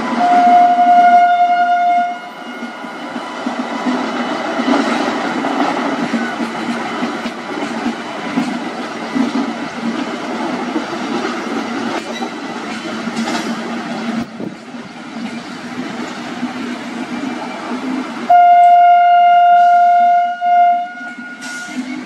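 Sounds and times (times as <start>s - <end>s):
train wheels clickety-clack: 0.0s - 22.0s.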